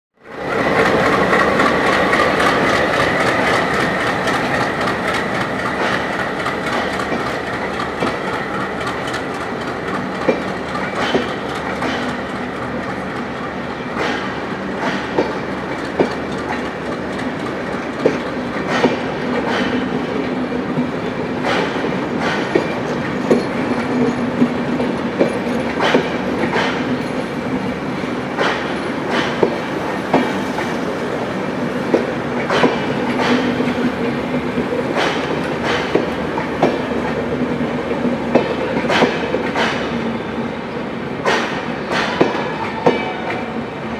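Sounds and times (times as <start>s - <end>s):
train rolling past: 0.2s - 43.9s
wheels clicking over rail joints: 0.4s - 13.3s, 14.0s - 30.8s, 31.8s - 40.0s.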